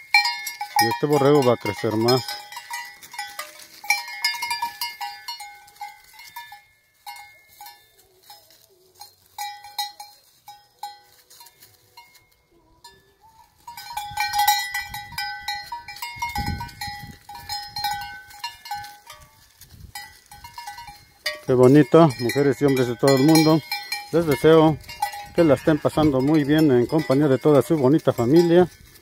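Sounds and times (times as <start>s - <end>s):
sheep bells clanking: 0.0s - 29.0s.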